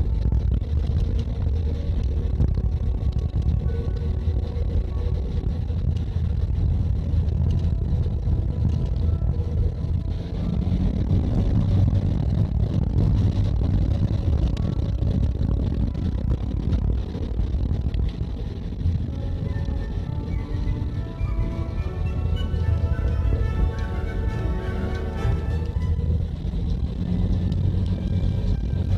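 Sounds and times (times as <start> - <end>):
engine and road rumble: 0.0 - 28.9.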